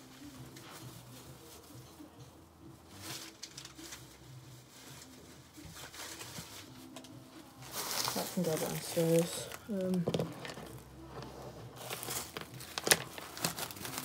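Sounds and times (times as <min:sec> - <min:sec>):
plastic bag rustling: 0:00.0 - 0:14.0.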